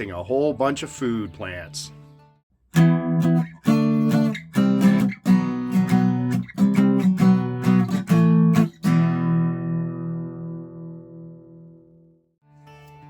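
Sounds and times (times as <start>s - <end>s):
acoustic guitar strumming: 0.6s - 13.0s.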